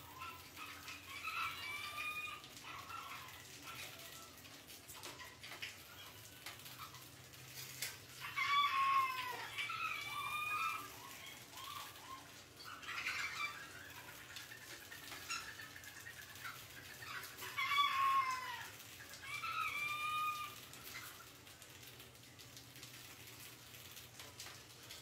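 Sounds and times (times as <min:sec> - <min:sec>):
rats squealing: 0:00.0 - 0:21.3.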